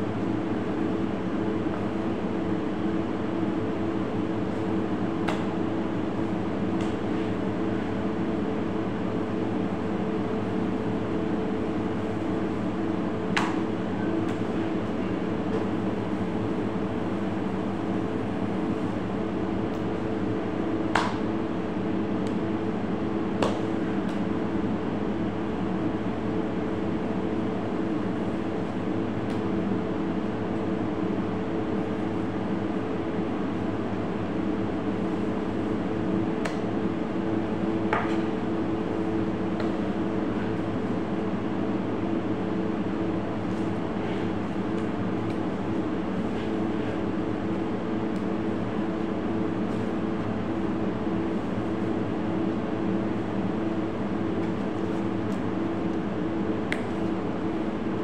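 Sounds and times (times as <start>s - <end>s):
low machinery hum: 0.0s - 58.0s.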